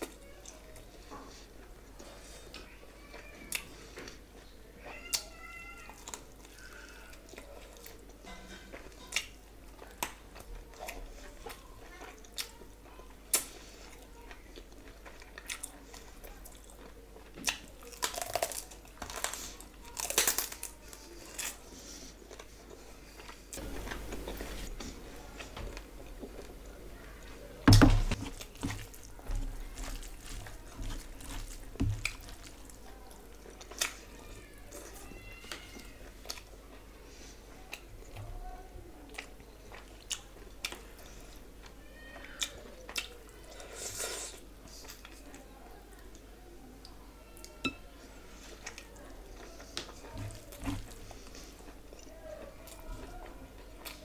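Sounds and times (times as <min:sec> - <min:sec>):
chewing and crunching: 0:05.9 - 0:27.4, 0:28.0 - 0:38.3, 0:39.0 - 0:47.6, 0:48.3 - 0:54.0.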